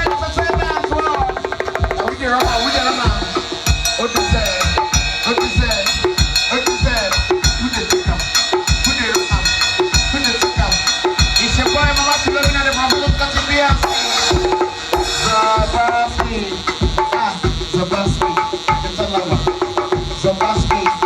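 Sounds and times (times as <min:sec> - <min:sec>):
heavy kick drum: 0:00.0 - 0:20.8
loud dance music: 0:00.0 - 0:21.0.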